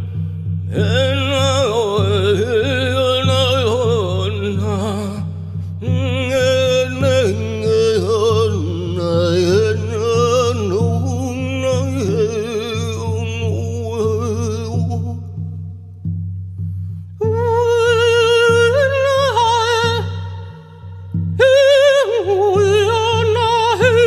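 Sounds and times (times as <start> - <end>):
man singing wordless tones: 0.0 - 15.6, 17.2 - 24.0.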